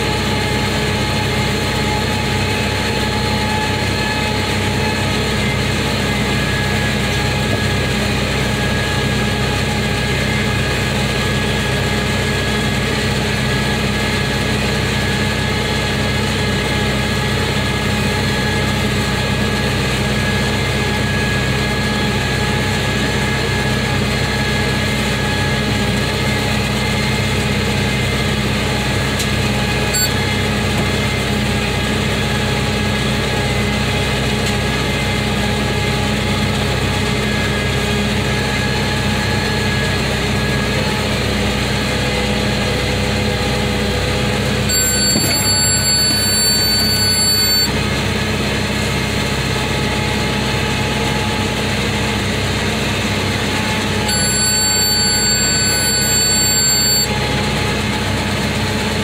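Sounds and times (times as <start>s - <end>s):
tractor engine running steadily: 0.0s - 59.0s.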